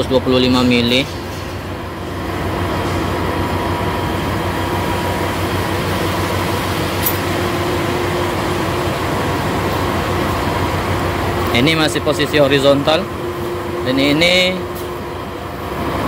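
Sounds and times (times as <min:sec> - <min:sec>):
concrete pump droning: 0:00.0 - 0:16.0.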